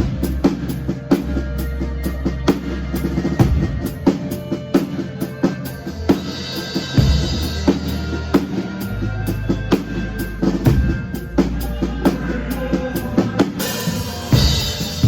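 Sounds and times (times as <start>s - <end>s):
bass guitar notes: 0.0s - 15.0s
drum kit beat: 0.0s - 15.0s.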